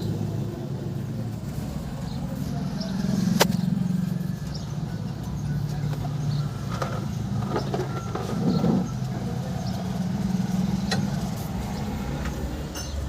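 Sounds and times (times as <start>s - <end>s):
engine running low hum: 0.0s - 13.0s.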